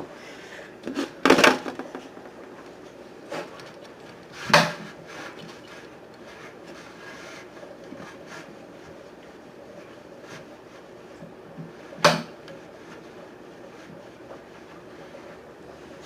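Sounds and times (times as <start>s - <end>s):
rubbing and handling sounds: 0.9s - 16.0s.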